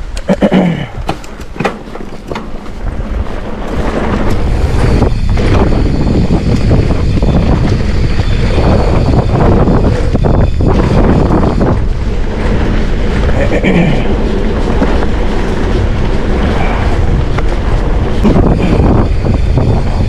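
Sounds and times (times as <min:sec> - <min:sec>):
bike tyre rumble on dirt: 0:00.0 - 0:20.0
wind buffeting microphone: 0:00.9 - 0:20.0.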